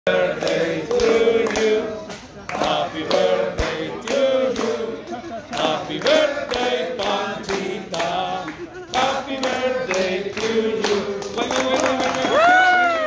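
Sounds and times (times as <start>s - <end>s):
group singing: 0.1s - 12.2s
hand clapping: 0.4s - 4.8s, 5.5s - 13.0s.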